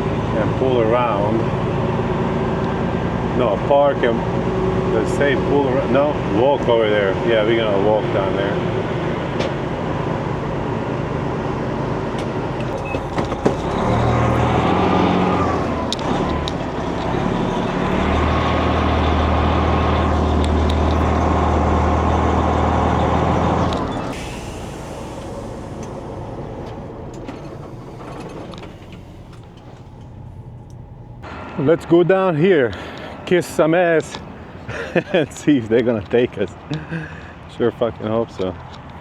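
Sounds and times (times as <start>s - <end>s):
diesel truck engine running: 0.0s - 38.8s.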